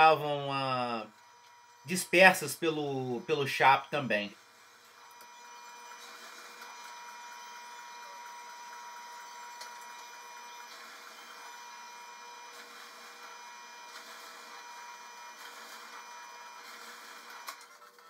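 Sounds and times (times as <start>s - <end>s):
drill press boring into wood: 0.0s - 18.0s.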